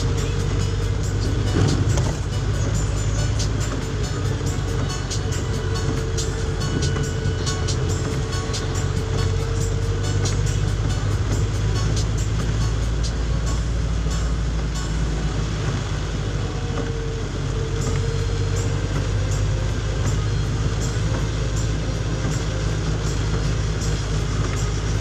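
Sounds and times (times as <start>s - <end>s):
heavy rain falling: 0.0s - 25.0s
raindrops tapping: 0.0s - 25.0s.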